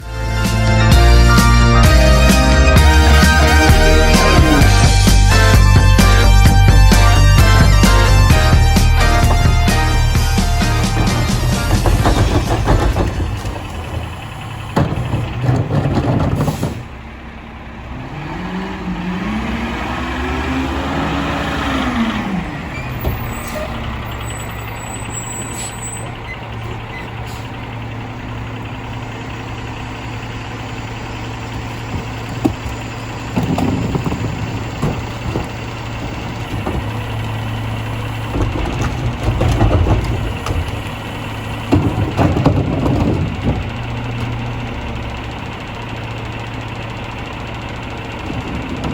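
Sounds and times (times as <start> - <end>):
garbage truck diesel engine: 0.0 - 48.9
rear loader clanking: 0.3 - 48.9.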